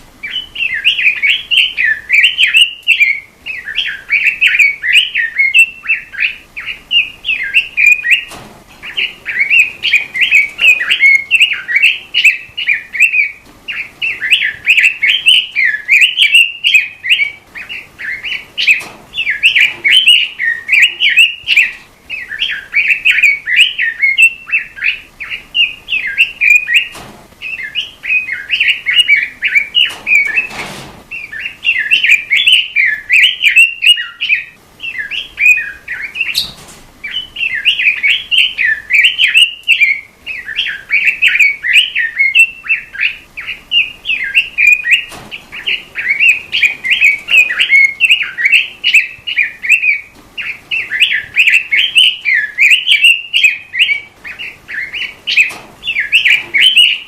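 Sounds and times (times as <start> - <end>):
robin singing: 0.0 - 57.0.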